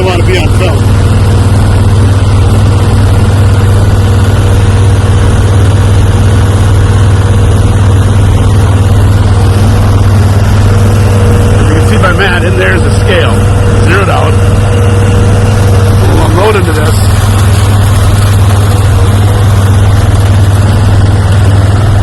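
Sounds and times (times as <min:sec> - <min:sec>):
heavy machinery engine droning: 0:00.0 - 0:22.0.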